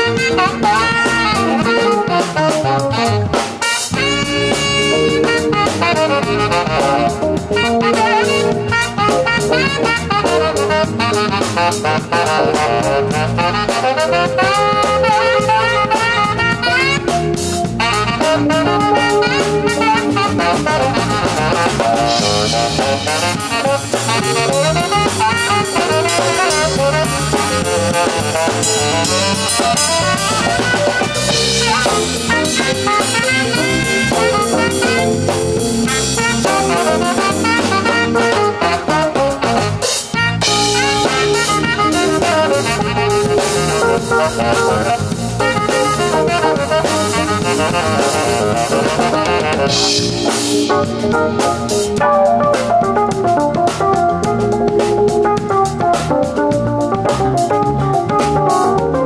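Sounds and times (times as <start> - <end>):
drum kit with cymbals: 0.0 - 59.0
electric keyboard chords: 0.0 - 59.0.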